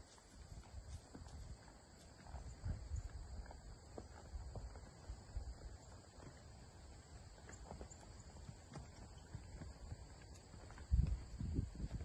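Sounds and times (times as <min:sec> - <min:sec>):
horse hoofbeats on soft dirt: 0:00.0 - 0:12.0.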